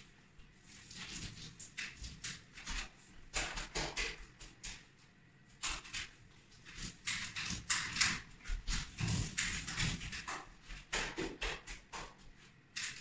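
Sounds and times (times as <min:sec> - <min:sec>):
paint roller strokes on ceiling: 0:00.0 - 0:13.0.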